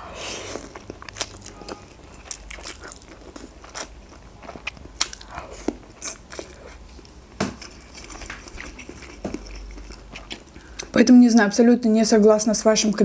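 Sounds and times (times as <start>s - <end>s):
person chewing noodles: 0.0s - 10.9s.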